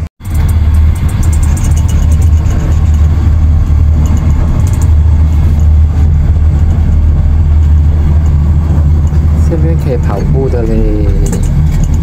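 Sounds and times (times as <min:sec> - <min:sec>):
cable car pod rumbling: 0:00.0 - 0:12.0.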